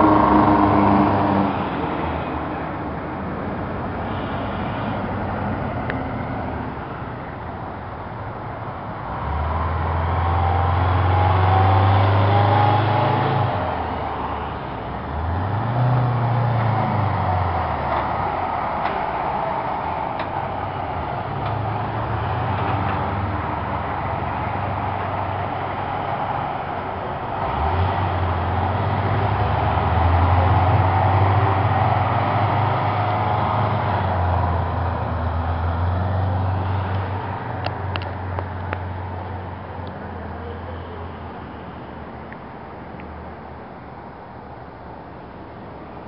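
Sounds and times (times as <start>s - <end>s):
fire truck engines rumbling: 0.0s - 46.0s.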